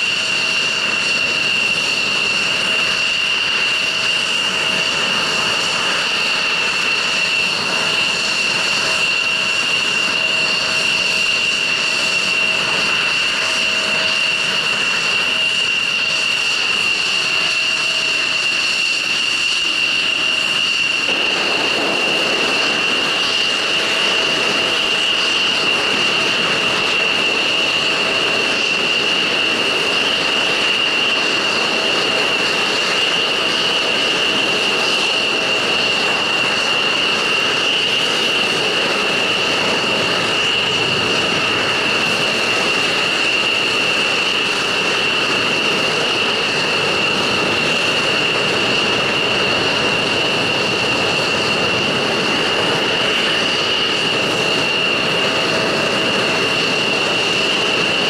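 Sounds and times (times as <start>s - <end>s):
jet engines idling: 0.0s - 58.0s.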